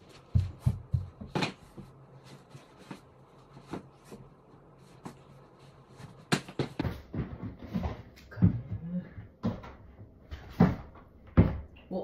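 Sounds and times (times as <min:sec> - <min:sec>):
shoes knocking and rustling: 0:00.0 - 0:11.7.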